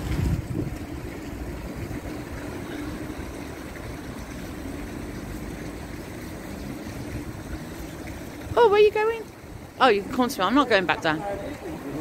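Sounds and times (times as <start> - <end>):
low outdoor rumble: 0.0 - 11.1.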